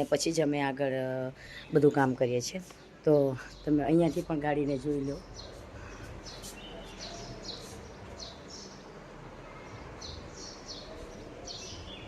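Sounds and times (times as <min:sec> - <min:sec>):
low outdoor background noise: 0:00.0 - 0:12.0
small bird chirping: 0:01.5 - 0:12.0.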